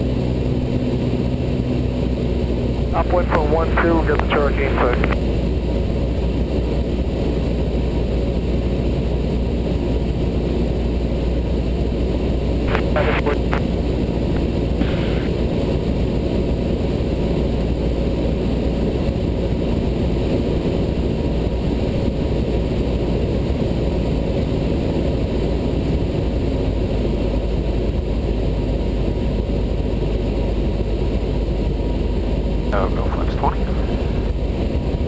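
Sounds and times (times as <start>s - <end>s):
propeller plane engine droning: 0.0s - 35.0s.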